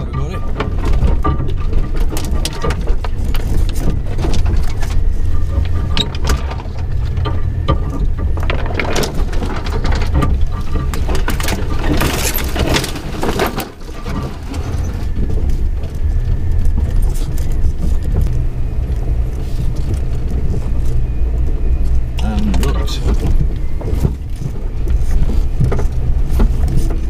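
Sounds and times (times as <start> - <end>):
body and suspension rattling: 0.0 - 27.0
car engine rumble: 0.0 - 27.0.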